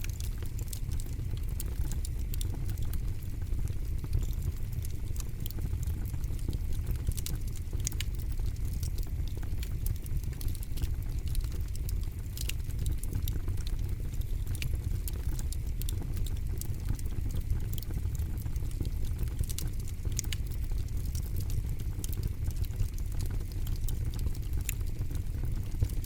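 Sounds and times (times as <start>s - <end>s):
flames rumbling: 0.0s - 26.0s
wood crackling and popping: 0.0s - 26.0s.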